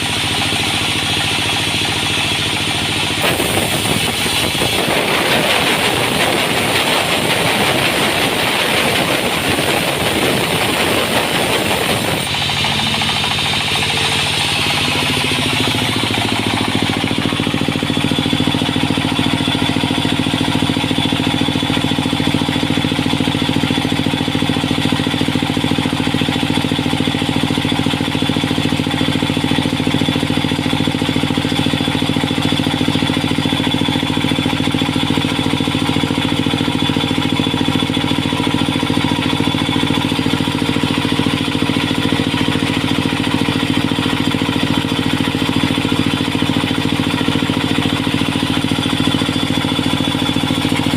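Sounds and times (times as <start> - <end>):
sawmill engine humming: 0.0 - 50.9.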